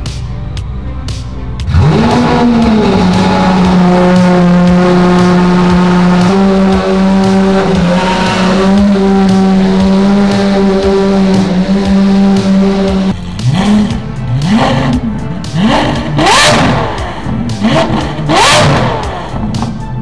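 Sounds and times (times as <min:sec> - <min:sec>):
car engine starting and idling: 0:00.0 - 0:20.0.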